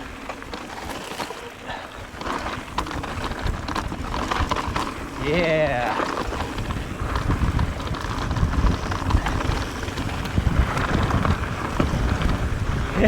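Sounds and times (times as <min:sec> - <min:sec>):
bike clicks and rattles: 0:00.0 - 0:13.0
wind buffeting microphone: 0:01.7 - 0:13.0.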